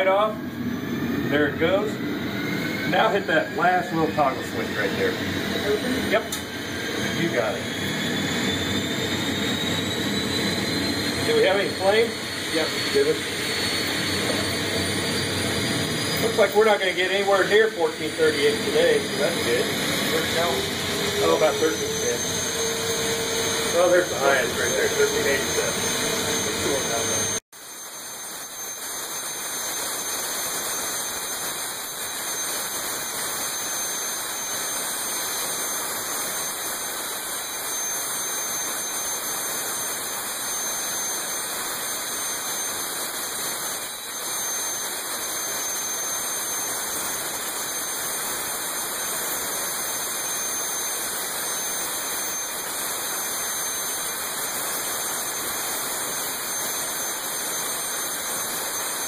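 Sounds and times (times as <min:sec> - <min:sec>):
turbofan engine hissing rush: 0:00.0 - 0:59.0.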